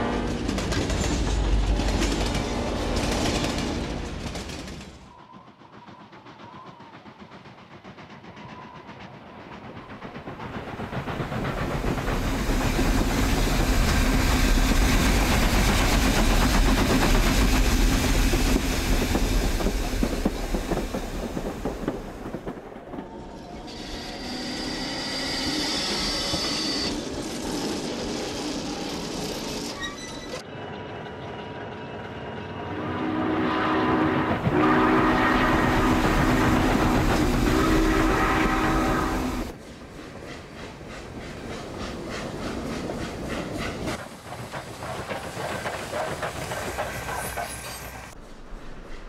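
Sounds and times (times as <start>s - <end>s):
steam locomotive passing: 0.0s - 49.0s.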